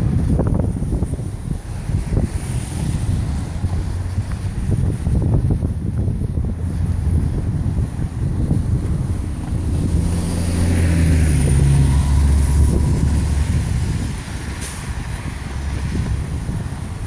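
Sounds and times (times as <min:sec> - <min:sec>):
heavy engine rumbling: 0:00.0 - 0:17.0.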